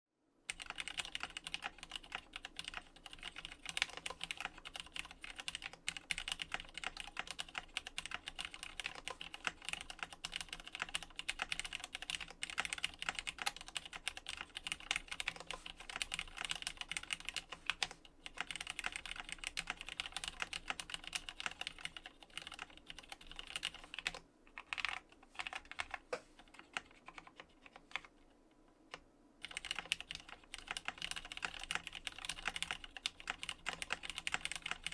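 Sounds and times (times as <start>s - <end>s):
mechanical keyboard typing: 0.5s - 28.1s, 28.9s - 34.9s.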